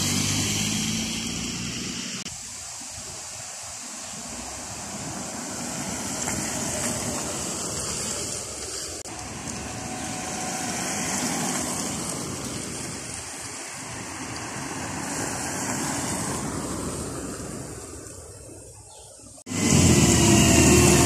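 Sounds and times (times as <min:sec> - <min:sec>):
car tyres hissing on wet road: 0:00.0 - 0:18.0, 0:19.5 - 0:21.0.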